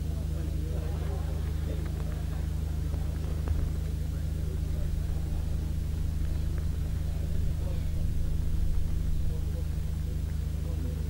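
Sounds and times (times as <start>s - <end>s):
faint murmuring voices: 0.0s - 11.0s
steady low hum: 0.0s - 11.0s.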